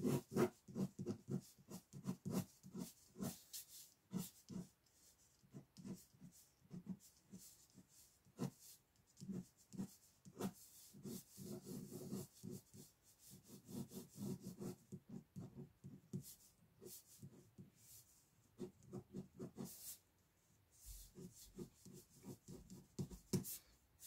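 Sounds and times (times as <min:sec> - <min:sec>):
pen scratching on paper: 0:00.0 - 0:20.0, 0:20.8 - 0:23.6.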